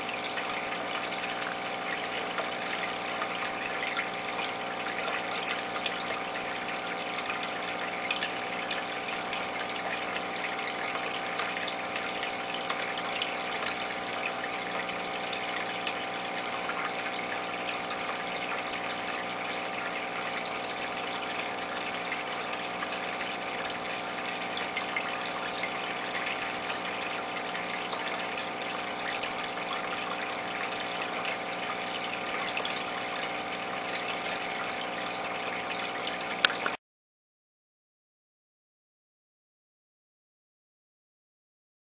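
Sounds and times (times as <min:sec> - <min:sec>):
filter motor hum: 0:00.0 - 0:36.8
water trickling: 0:00.0 - 0:36.8.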